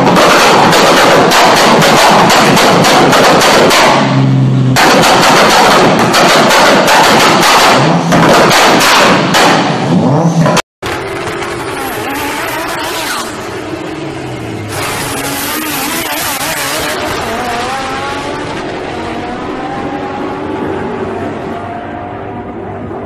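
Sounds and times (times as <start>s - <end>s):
exhaust crackling and banging: 0.0s - 19.9s
car engine revving: 0.0s - 23.0s.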